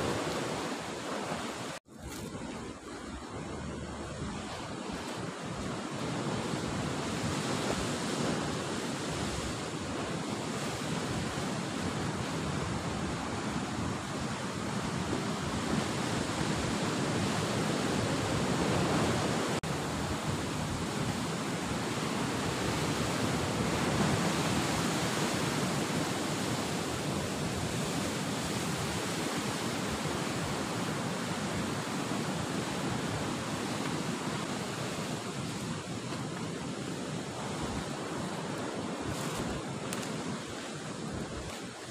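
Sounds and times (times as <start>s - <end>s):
ocean surf breaking on rocks: 0.0s - 41.9s.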